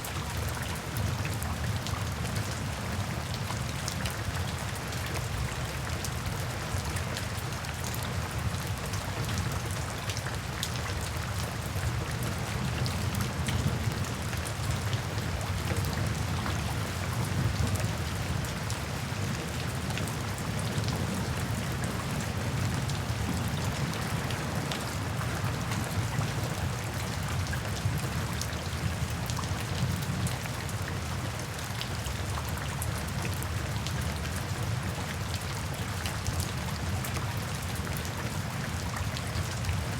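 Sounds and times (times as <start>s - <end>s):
low rain rumble: 0.0s - 39.9s
rain patter: 0.0s - 39.9s.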